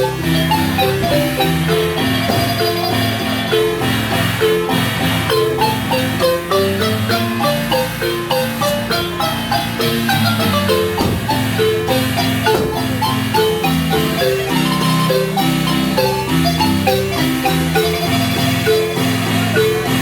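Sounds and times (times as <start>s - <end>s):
marimba playing lively tune: 0.0s - 20.0s.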